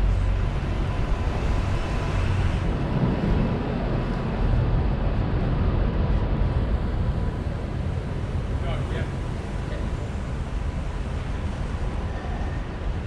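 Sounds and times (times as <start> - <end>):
low rumble of traffic: 0.0 - 13.0
wind buffeting microphone: 0.0 - 13.0.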